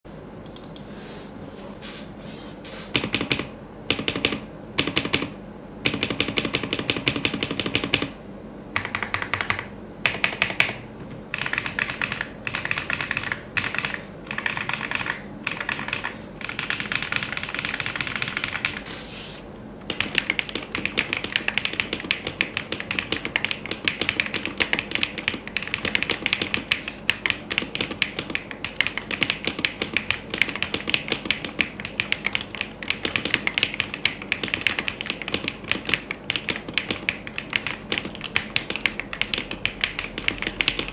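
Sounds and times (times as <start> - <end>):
mechanical keyboard typing: 3.0 - 8.2, 8.8 - 18.9, 19.8 - 40.9.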